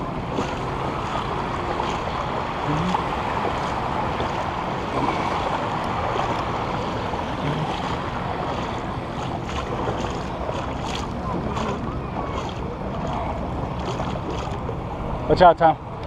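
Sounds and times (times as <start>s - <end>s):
small waves lapping: 0.0s - 16.0s.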